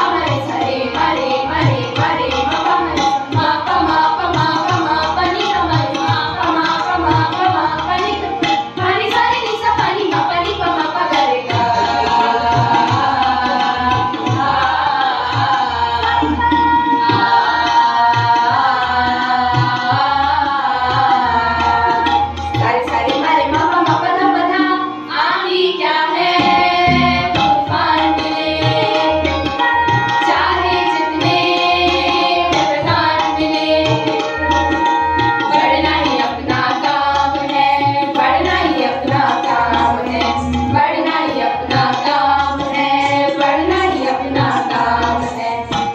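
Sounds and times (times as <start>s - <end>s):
group of young voices singing: 0.0s - 45.9s
harmonium: 0.0s - 45.9s
tabla: 0.0s - 45.9s.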